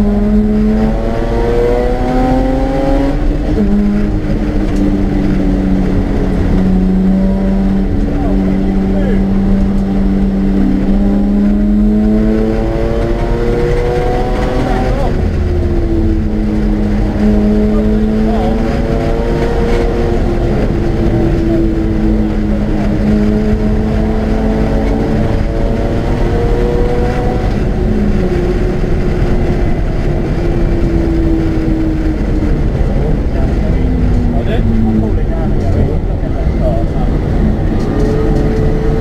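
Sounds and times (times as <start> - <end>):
road and wind noise: 0.0 - 39.0
rotary engine revving hard: 0.0 - 39.0.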